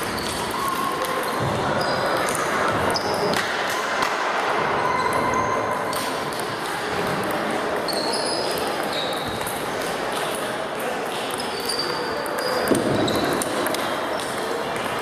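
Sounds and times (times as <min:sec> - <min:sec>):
hubbub of voices: 0:00.0 - 0:15.0.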